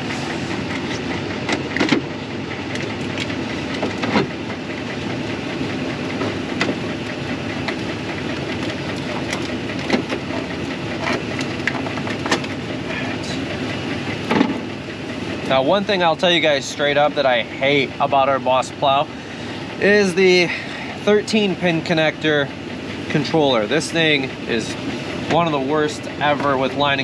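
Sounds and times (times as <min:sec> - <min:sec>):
pickup truck idling: 0:00.0 - 0:27.0.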